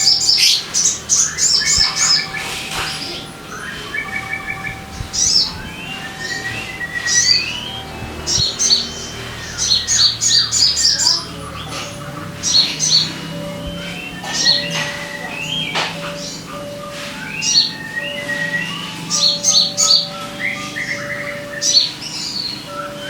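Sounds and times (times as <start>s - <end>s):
bird chirps and trills: 0.0s - 23.0s
slurred bird calls: 0.0s - 23.0s
whistled bird notes: 0.0s - 23.0s.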